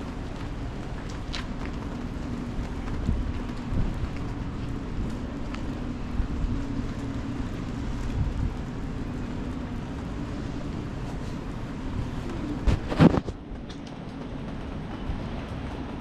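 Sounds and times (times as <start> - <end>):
rain: 0.0 - 16.0
wet-road traffic: 0.0 - 16.0.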